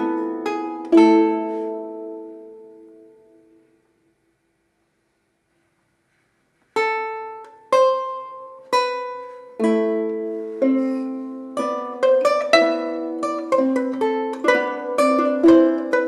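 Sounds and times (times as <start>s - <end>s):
lute and harps playing: 0.0s - 3.7s, 6.8s - 16.0s.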